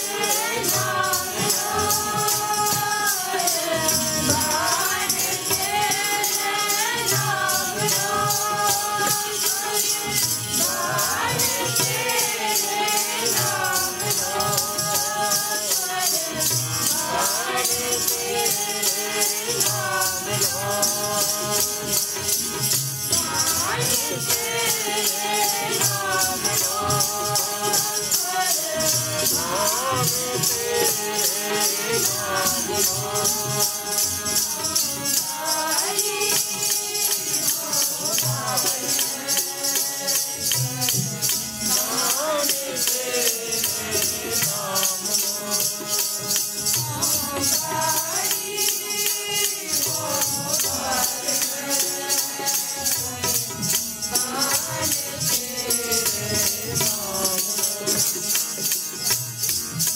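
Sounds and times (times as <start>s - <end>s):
jingling percussion beat: 0.0s - 59.9s
voices singing devotional melody: 0.0s - 59.9s.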